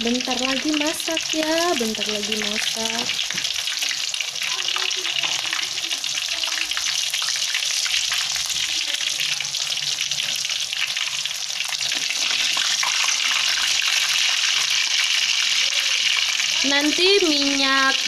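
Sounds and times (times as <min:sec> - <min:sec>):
chicken sizzling in hot oil: 0:00.0 - 0:18.0
ladle turning food in oil: 0:00.0 - 0:18.0.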